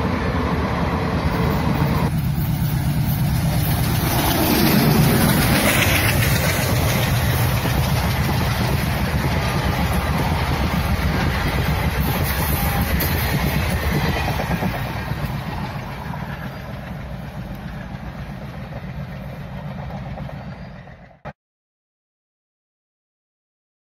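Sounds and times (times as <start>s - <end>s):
train wheels on rails: 0.0s - 21.3s
diesel locomotive engine: 0.0s - 21.4s.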